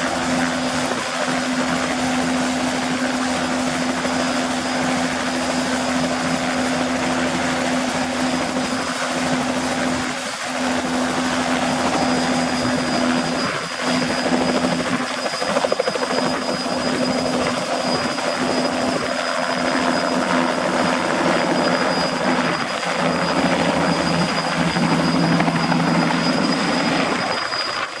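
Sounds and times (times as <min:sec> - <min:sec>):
helicopter rotor noise: 0:00.0 - 0:28.0
helicopter turbine whine: 0:00.0 - 0:28.0.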